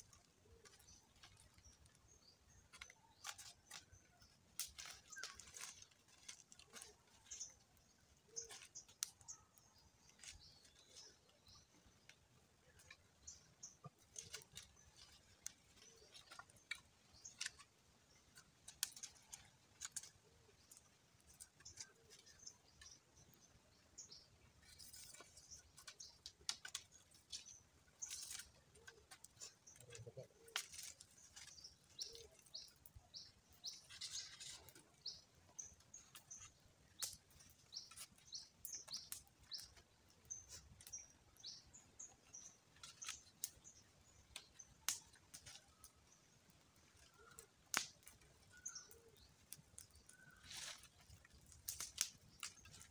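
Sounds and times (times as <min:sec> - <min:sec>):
birds chirping: 0:00.0 - 0:52.9
wooden sticks clicking and knocking: 0:00.0 - 0:52.9.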